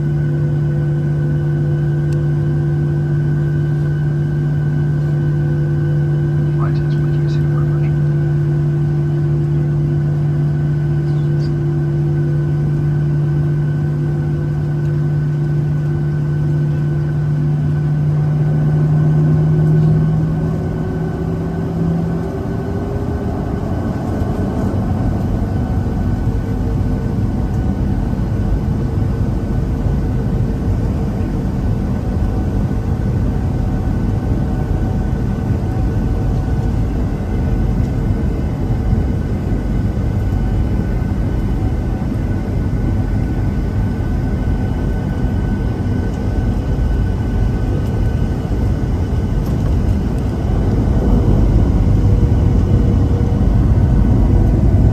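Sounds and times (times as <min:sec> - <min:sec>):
heavy takeoff rumble: 0:00.0 - 0:54.9
jet engines humming and whining: 0:00.0 - 0:54.9.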